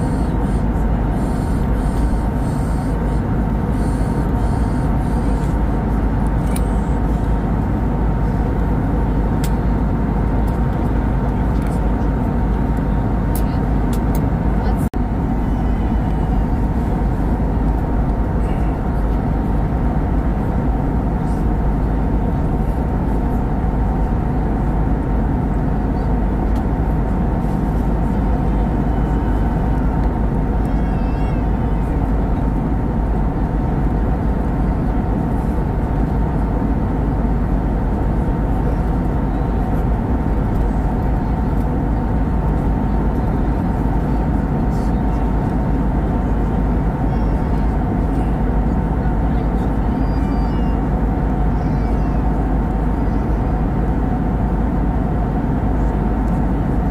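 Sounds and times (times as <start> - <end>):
airplane cabin engine noise: 0.0 - 56.9.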